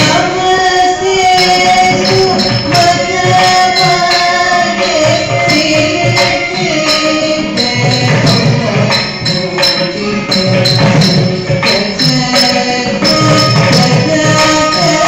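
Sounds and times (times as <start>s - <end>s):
held melody: 0.0s - 15.0s
rhythmic percussion beat: 0.0s - 15.0s
jingling bells: 1.3s - 15.0s.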